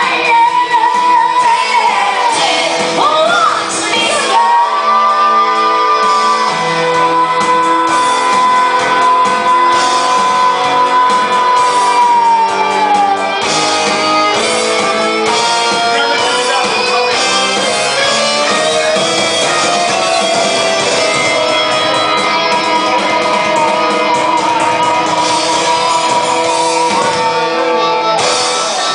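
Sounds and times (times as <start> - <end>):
rock band playing: 0.0 - 28.9
electric guitar held high note: 3.6 - 28.9.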